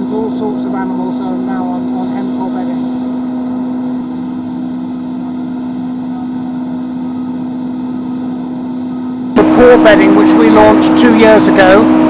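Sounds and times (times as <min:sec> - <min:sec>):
industrial machinery drone: 0:00.0 - 0:12.0.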